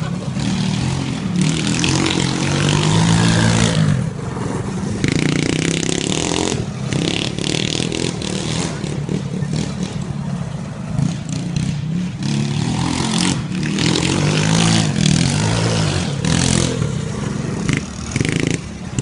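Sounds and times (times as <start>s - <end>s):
small gasoline engine revving: 0.0s - 19.0s.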